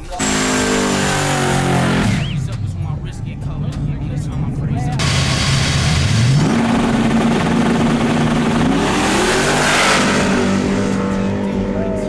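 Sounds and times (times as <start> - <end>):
muscle car engine revving: 0.0 - 12.0.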